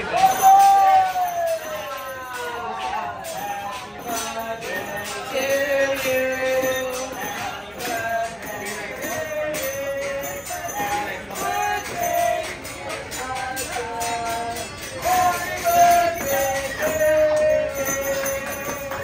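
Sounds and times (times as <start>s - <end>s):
high percussion beat: 0.0s - 19.0s
upbeat music with held notes: 0.0s - 19.0s.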